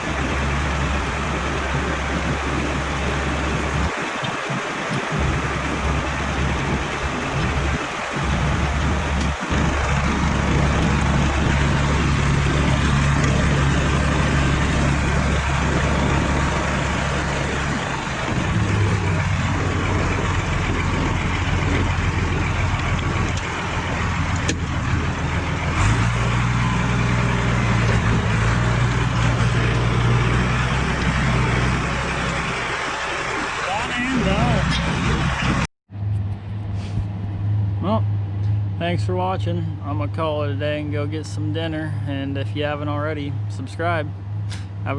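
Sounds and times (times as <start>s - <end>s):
farm vehicle engine running: 0.0s - 44.9s.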